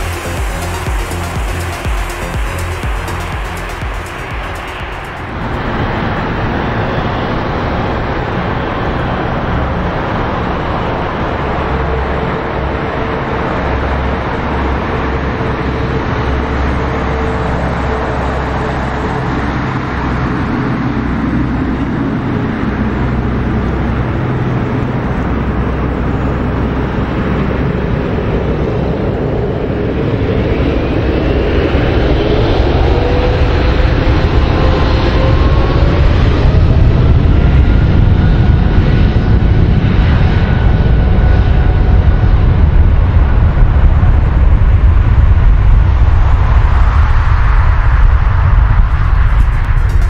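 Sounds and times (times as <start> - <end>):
jet engines running: 0.0 - 50.0.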